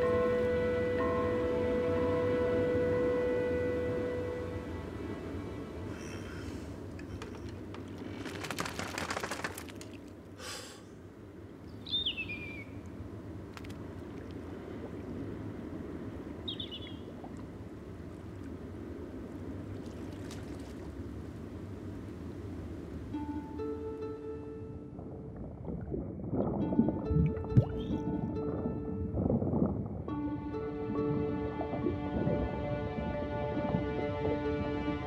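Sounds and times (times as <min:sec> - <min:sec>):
wind and sea: 0:00.0 - 0:35.0.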